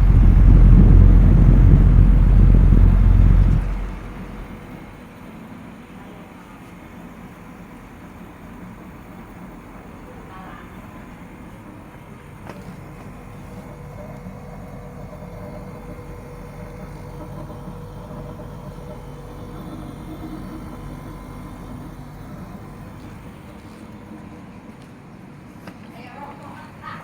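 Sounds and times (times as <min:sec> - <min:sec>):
faint steady whine: 0:00.0 - 0:05.2, 0:08.3 - 0:24.8
air conditioner low hum: 0:00.0 - 0:27.0.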